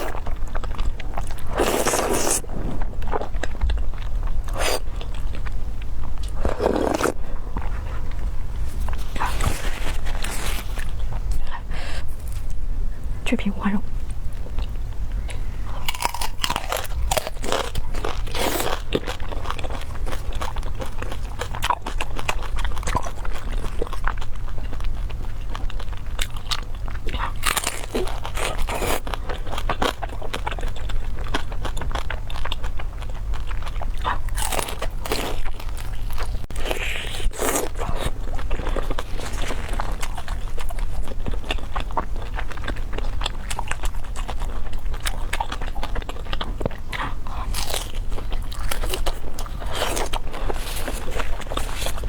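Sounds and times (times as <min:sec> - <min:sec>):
crunchy chewing: 0:00.0 - 0:12.6, 0:14.0 - 0:52.0
steady low hum: 0:00.0 - 0:52.0.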